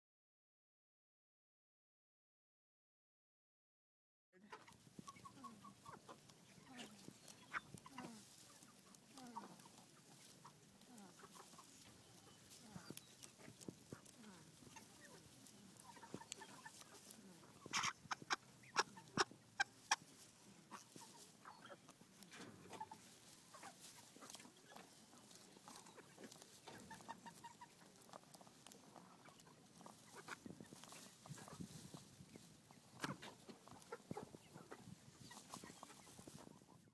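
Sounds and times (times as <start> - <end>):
chickens clucking quietly: 4.4 - 36.9.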